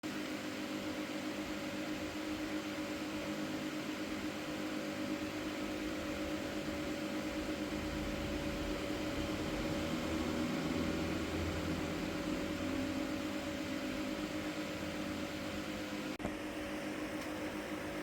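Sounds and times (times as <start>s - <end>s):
mechanical hum with steady tones: 0.0s - 18.0s.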